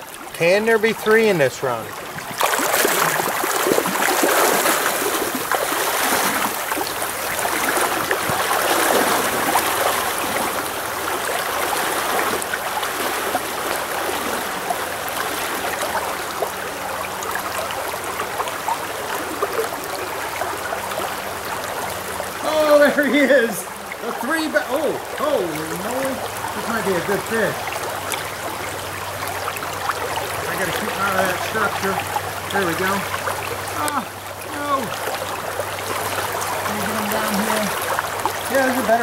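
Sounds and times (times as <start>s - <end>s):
stream running: 0.0s - 39.0s.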